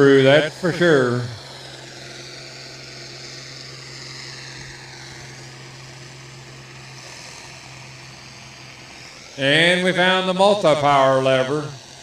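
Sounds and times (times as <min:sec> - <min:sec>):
tractor engine droning under load: 0:00.0 - 0:12.0.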